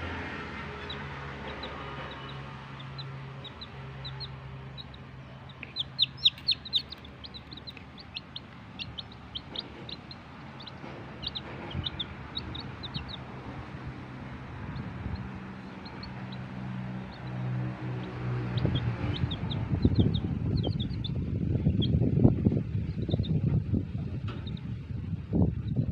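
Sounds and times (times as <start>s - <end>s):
chicks peeping: 0.6s - 25.9s.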